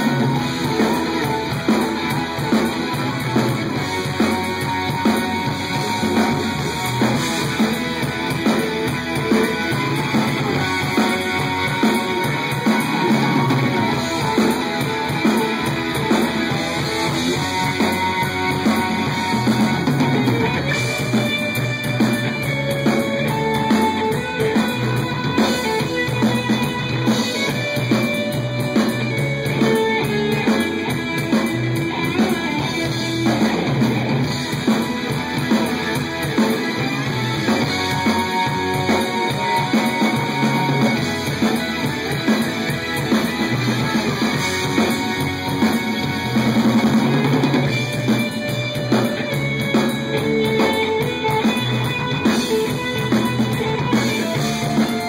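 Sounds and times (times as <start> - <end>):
electric guitar: 0.0 - 55.0
rock band playing: 0.0 - 55.0.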